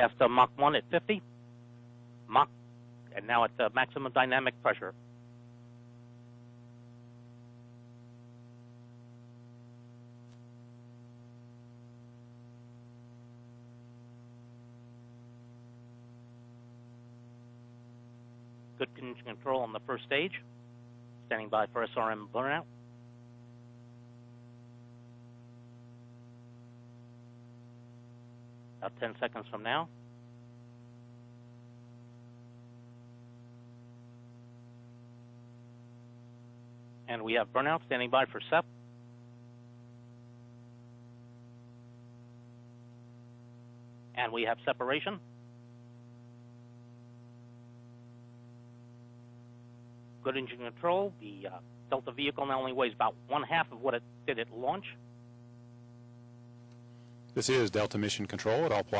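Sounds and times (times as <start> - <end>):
electrical mains hum: 0.0 - 58.9.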